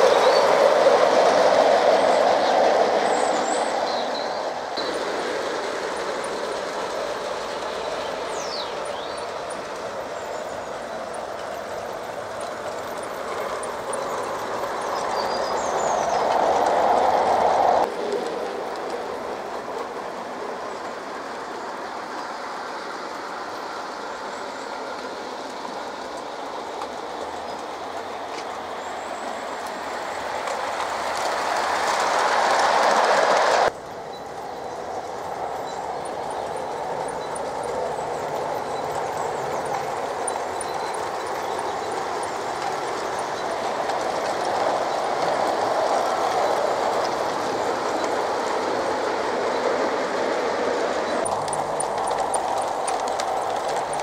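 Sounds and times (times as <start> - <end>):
model train wheels on rail: 0.0 - 54.0.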